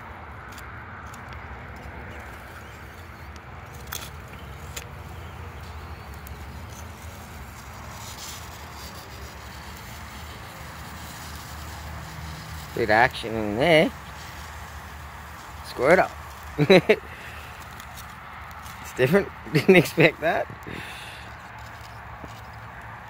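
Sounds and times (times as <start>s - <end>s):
mussels hissing on charcoal: 0.6s - 23.0s.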